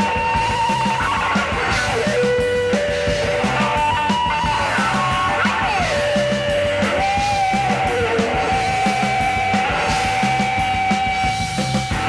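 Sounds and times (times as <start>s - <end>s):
bass: 0.0s - 12.0s
drum beat: 0.0s - 12.0s
electric guitar sliding notes: 0.0s - 12.0s.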